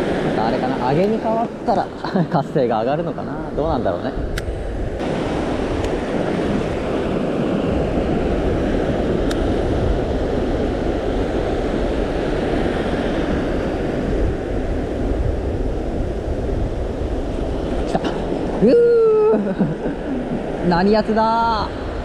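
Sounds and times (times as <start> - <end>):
surf washing on reef: 0.0 - 22.0
wind buffeting microphone: 0.0 - 22.0.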